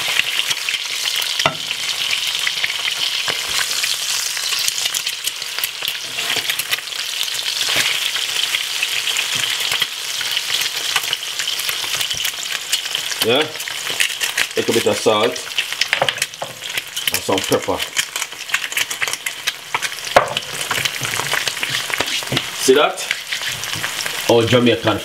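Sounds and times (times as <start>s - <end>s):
eggs sizzling in oil: 0.0s - 25.0s.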